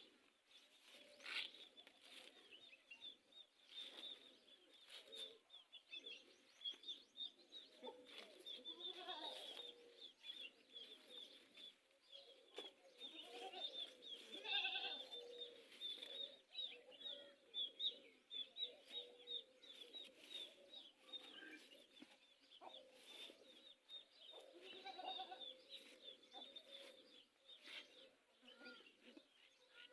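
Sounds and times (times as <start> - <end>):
farm animals calling: 0.0 - 29.9
small birds chirping: 0.0 - 29.9.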